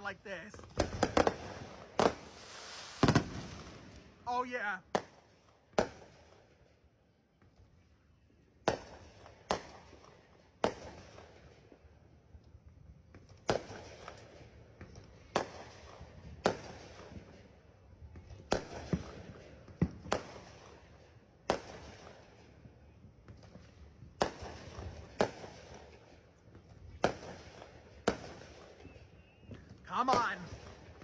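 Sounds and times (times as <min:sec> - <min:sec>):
fireworks booming and crackling: 0:00.0 - 0:06.4, 0:08.6 - 0:11.6, 0:13.2 - 0:17.5, 0:18.1 - 0:31.0.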